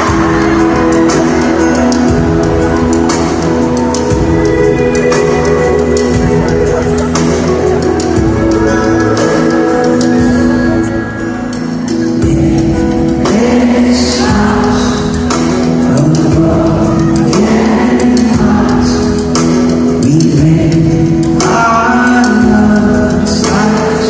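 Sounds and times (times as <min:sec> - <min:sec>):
live pop-rock song over pa: 0:00.0 - 0:24.0
man singing: 0:00.0 - 0:24.0.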